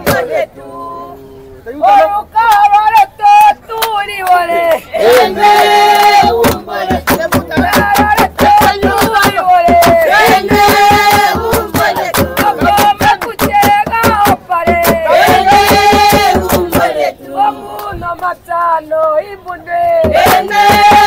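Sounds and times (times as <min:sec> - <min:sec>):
group singing in unison: 0:00.0 - 0:21.0
rhythmic hand clapping: 0:02.4 - 0:21.0.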